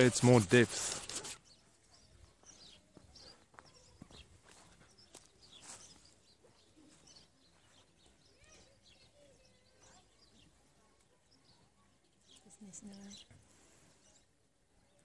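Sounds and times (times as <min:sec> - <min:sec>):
faint bird chirps: 0:00.9 - 0:15.0.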